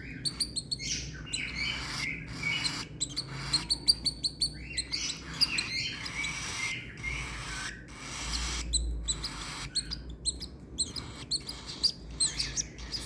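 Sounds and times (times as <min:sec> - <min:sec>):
bird raspy begging calls: 0:00.0 - 0:13.0
bird sharp chirps: 0:00.0 - 0:13.0.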